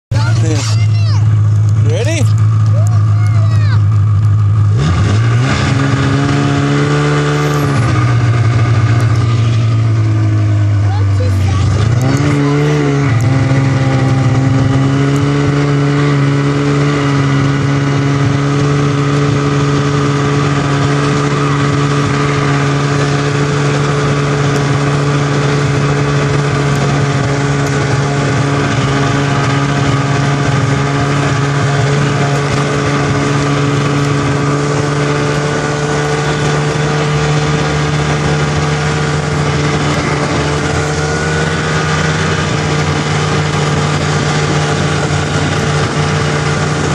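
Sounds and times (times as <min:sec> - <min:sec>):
snowmobile engine running: 0:00.1 - 0:46.9.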